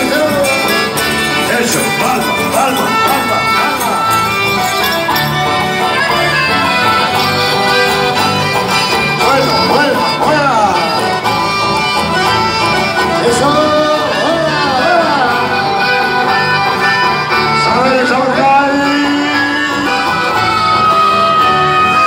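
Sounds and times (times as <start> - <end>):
accordion-led dance band: 0.0 - 22.0.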